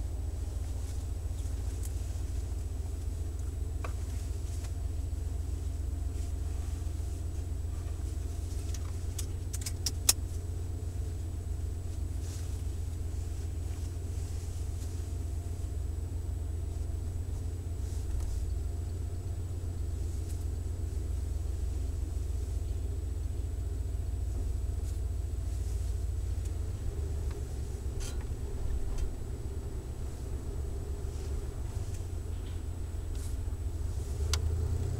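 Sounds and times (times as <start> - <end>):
van engine exhaust note: 0.0 - 34.9.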